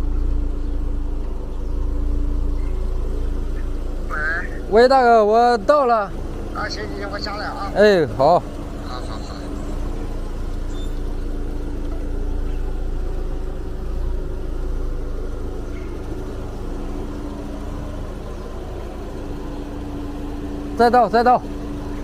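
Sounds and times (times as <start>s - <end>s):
car engine running at low speed: 0.0s - 22.0s.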